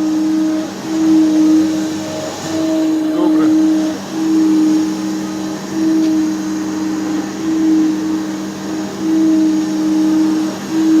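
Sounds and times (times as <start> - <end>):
surface grinder humming: 0.0 - 11.0.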